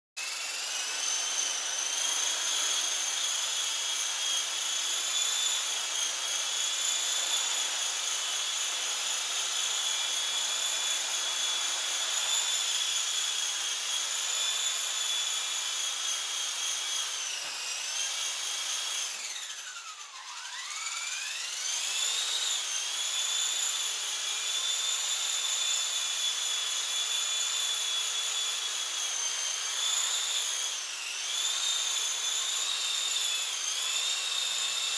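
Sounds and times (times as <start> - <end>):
rc helicopter motor whining: 0.2 - 34.9.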